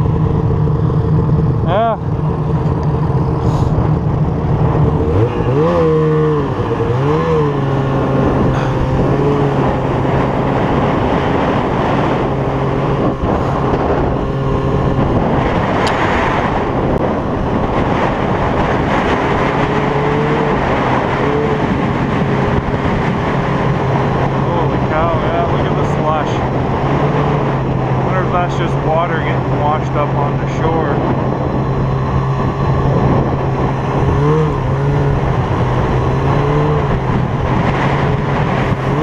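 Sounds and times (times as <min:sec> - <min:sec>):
constant rushing noise: 0:00.0 - 0:39.0
snowmobile engine revving: 0:00.0 - 0:39.0.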